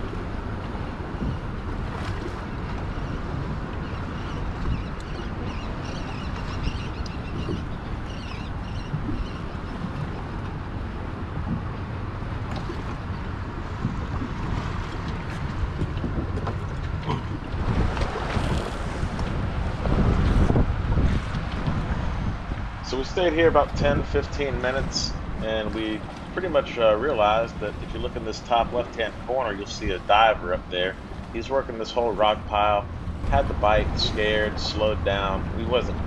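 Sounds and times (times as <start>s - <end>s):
water lapping against boat hull: 0.0s - 36.0s
wind buffeting microphone: 0.0s - 36.0s.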